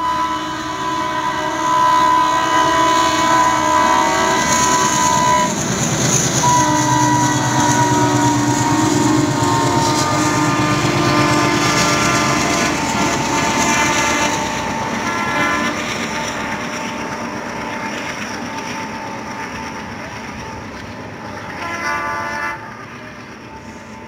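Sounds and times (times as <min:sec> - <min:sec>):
train horn: 0:00.0 - 0:05.6, 0:06.4 - 0:19.6, 0:21.3 - 0:24.0
train rumbling along track: 0:00.0 - 0:24.0.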